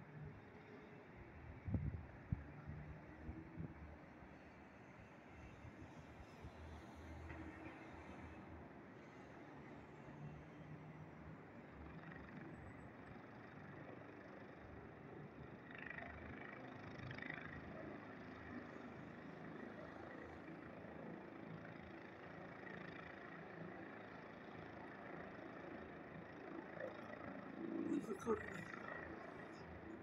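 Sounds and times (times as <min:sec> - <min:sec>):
faint distant engine noise: 0:00.0 - 0:30.0.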